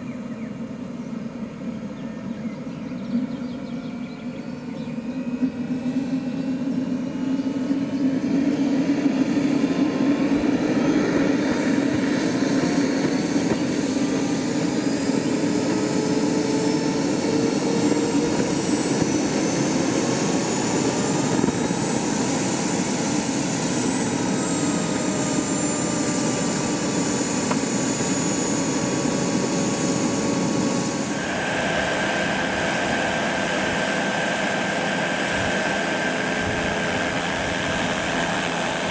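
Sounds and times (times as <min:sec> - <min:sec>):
turbine whine spooling up: 0:00.0 - 0:38.9.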